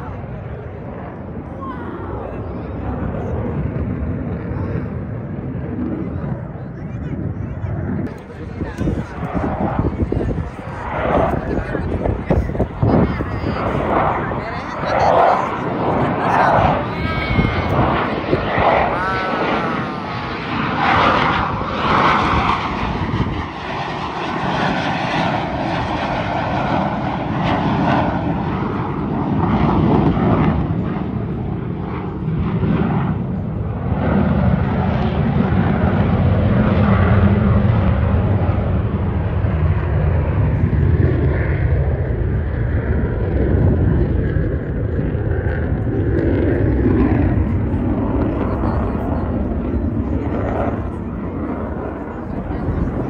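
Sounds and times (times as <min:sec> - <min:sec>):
fighter jet engine roar: 0:00.0 - 0:53.0.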